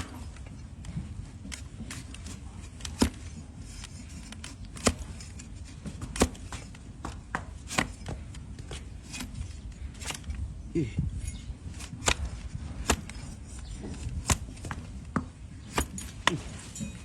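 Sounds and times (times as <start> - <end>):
blade cutting hoof: 0.0 - 10.6, 11.4 - 17.0.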